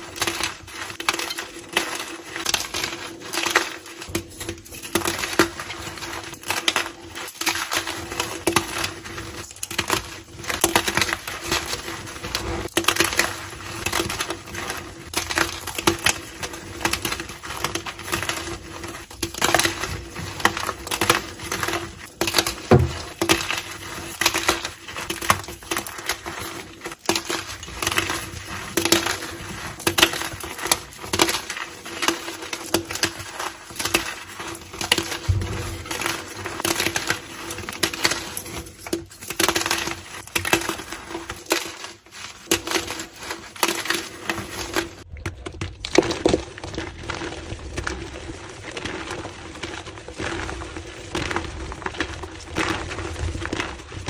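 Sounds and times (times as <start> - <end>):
chalk blocks crunching: 0.0 - 54.0.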